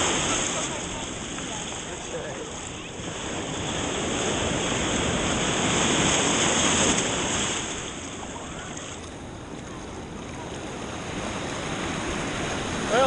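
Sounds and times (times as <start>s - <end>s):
surf washing around wading person: 0.0s - 13.0s.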